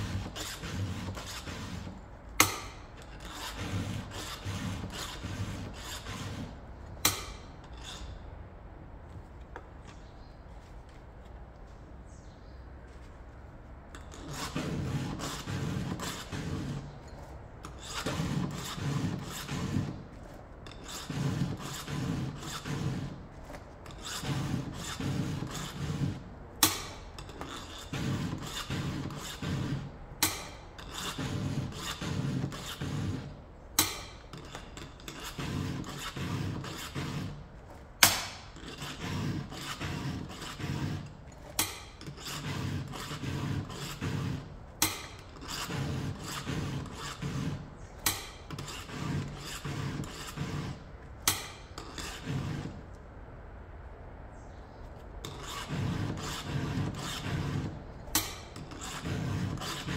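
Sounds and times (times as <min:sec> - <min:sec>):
file rasping on chainsaw chain: 0:00.0 - 0:08.2, 0:14.0 - 0:20.0, 0:20.7 - 0:23.2, 0:23.8 - 0:37.4, 0:38.0 - 0:52.8, 0:55.2 - 0:59.9.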